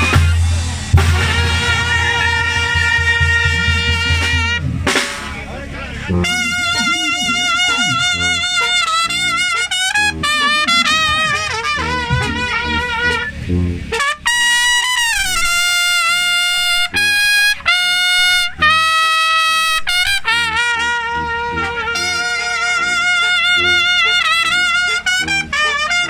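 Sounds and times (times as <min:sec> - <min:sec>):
drums and tuba beat: 0:00.0 - 0:26.0
trumpets playing melody: 0:00.0 - 0:26.0.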